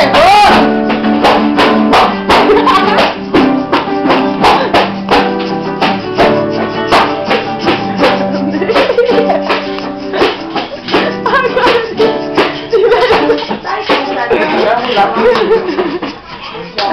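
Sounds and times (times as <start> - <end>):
fast beat of sharp hits: 0.0 - 16.1
plucked strings: 0.0 - 16.2.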